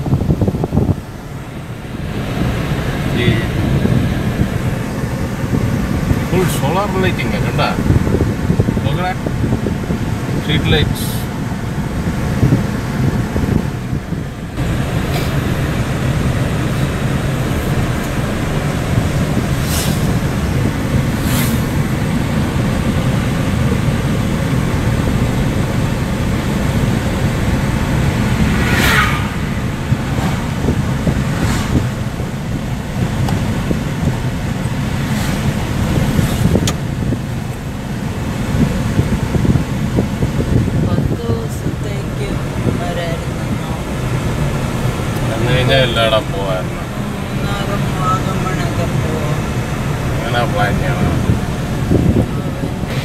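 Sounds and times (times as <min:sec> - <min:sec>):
car road noise rumble: 0:00.0 - 0:53.0
passing traffic whooshes: 0:00.0 - 0:53.0.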